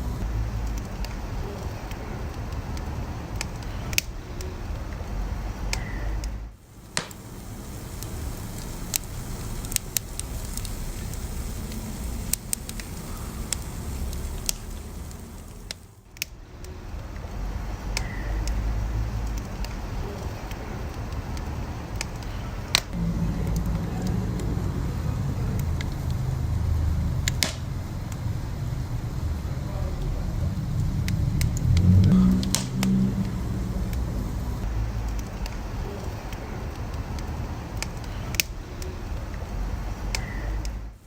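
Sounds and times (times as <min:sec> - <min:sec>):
low rumble of burning: 0:00.0 - 0:41.0
wood fire crackling: 0:00.0 - 0:41.0.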